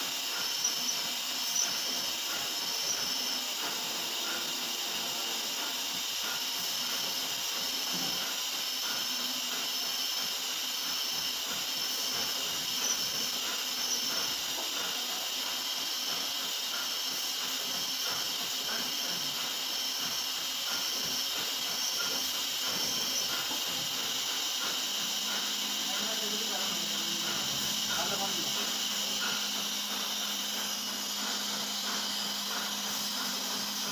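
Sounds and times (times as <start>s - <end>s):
machine drilling metal hissing: 0.0s - 33.9s.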